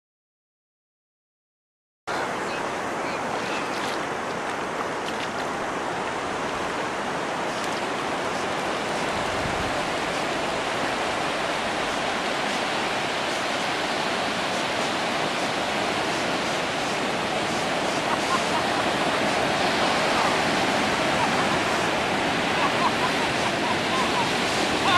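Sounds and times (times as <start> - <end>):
ocean surf on beach: 2.1 - 24.9.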